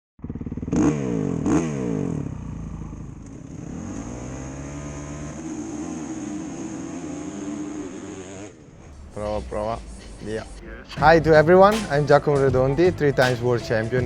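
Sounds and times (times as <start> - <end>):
motorcycle engine revving and idling: 0.2 - 14.0.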